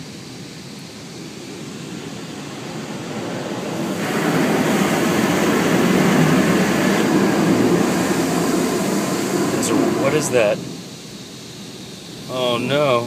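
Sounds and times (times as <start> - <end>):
car wash spraying and washing: 0.0 - 13.0.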